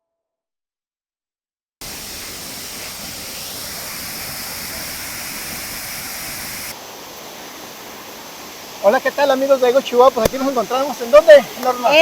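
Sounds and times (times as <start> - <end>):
waterfall roaring: 1.8 - 12.0.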